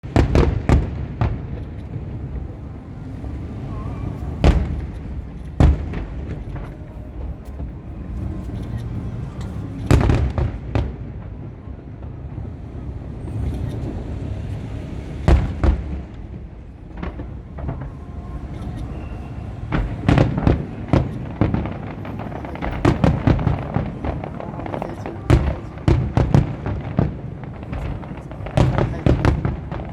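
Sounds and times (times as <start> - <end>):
fireworks bangs: 0.0 - 29.9
low rumble: 1.0 - 29.9.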